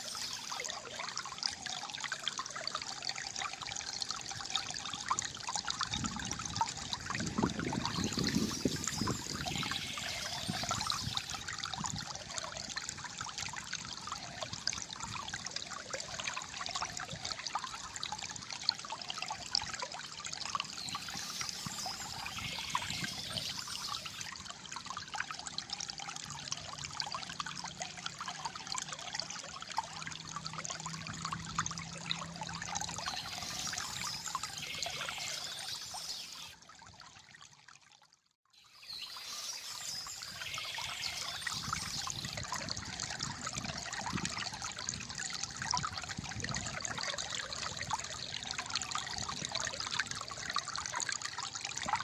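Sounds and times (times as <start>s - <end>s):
stream trickling and gurgling: 0.0s - 52.0s.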